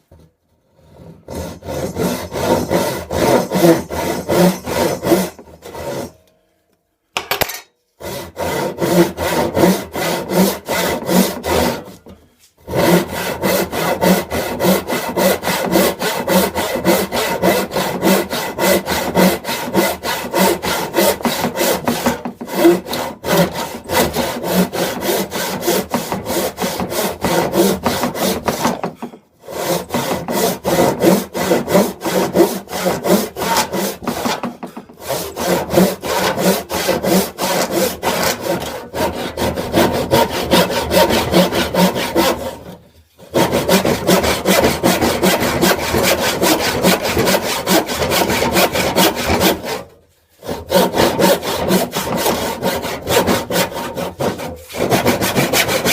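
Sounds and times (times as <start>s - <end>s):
handsaw cutting wood: 0.8s - 6.2s, 8.0s - 55.9s.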